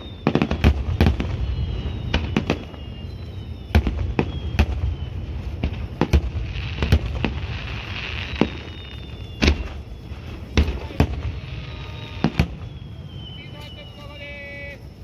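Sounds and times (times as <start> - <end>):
firework shells bursting: 0.0 - 14.1
firework whistles: 0.0 - 15.0.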